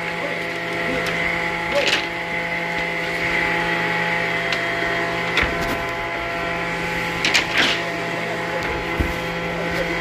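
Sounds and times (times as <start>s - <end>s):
woodworking machine motor humming: 0.0s - 10.0s.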